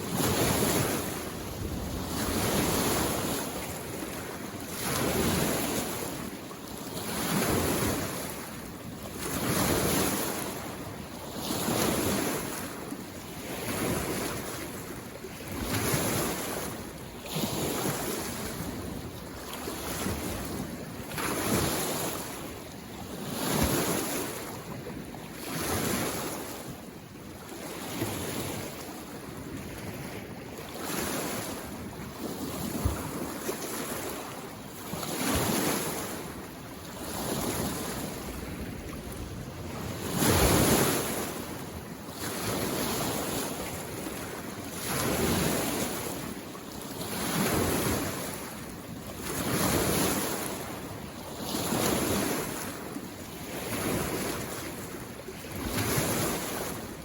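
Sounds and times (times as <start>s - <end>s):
lake waves washing on shore: 0.0s - 57.0s.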